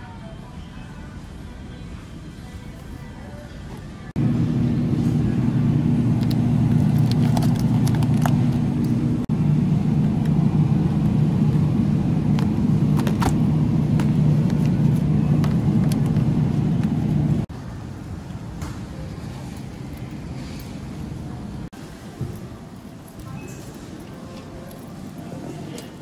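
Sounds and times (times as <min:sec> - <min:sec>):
refrigerated display case hum: 0:00.0 - 0:26.0.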